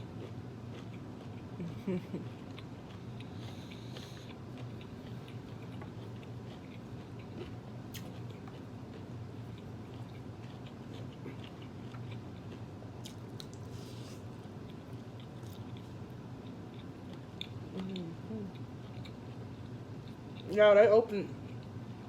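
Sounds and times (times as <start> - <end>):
person chewing food: 0.0 - 20.6
steady low hum: 0.0 - 22.0.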